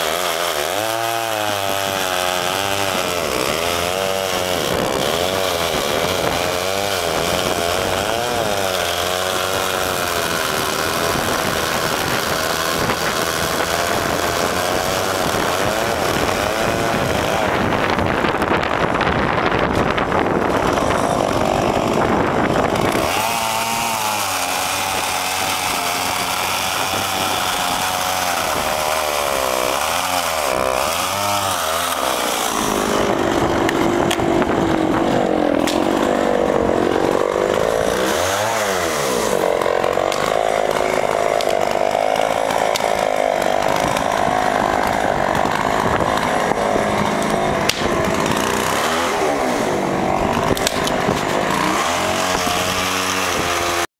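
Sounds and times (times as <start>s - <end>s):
chainsaw cutting tree trunk: 0.0s - 53.9s.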